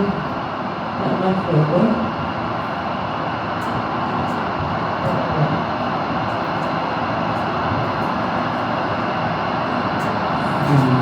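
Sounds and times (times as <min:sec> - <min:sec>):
steady rush of noise: 0:00.0 - 0:11.0.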